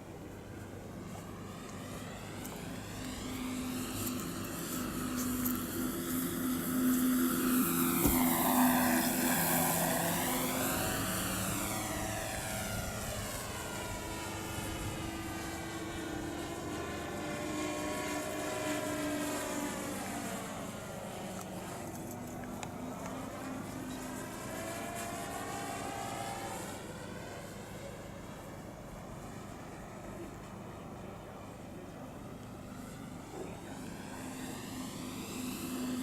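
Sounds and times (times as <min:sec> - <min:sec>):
model plane engine drone: 0:00.0 - 0:36.0.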